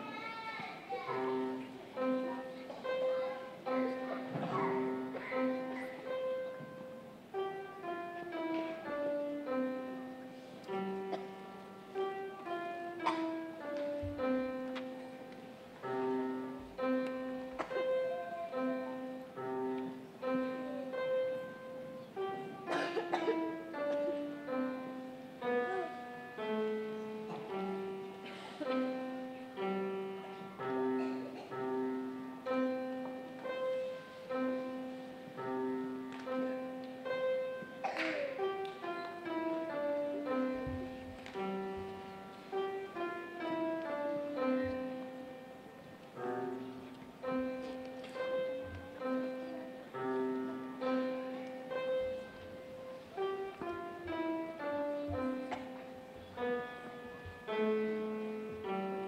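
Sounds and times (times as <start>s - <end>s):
solo piano melody: 0.0s - 59.0s.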